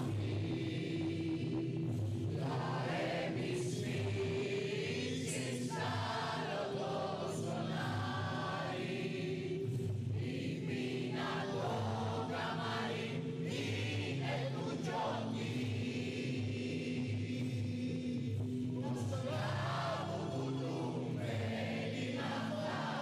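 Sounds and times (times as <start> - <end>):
mixed chorus singing: 0.0 - 23.0.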